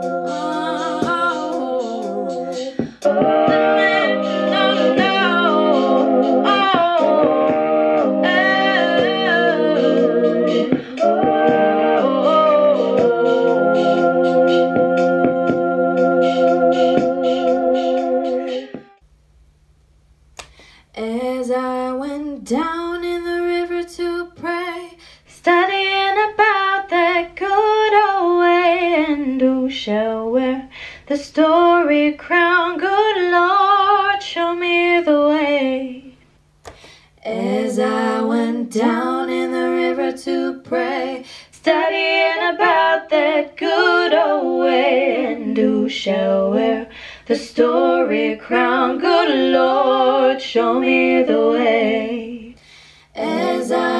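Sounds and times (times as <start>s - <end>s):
woman singing into microphone: 0.0s - 13.2s, 21.0s - 36.2s, 36.8s - 52.6s, 53.2s - 53.9s.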